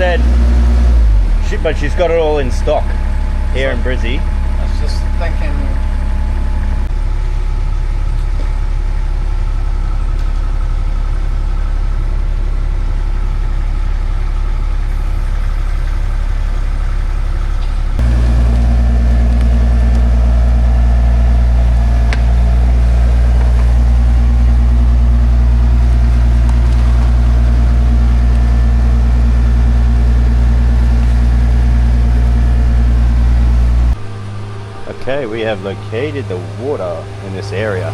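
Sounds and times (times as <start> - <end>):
engine droning: 0.0 - 37.9.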